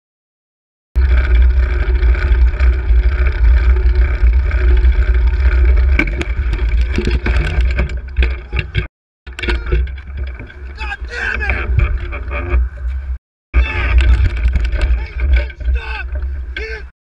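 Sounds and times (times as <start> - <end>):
bicycle clattering knocks and rattles: 1.0 - 12.2, 13.8 - 16.7
road noise rumble: 1.0 - 16.9.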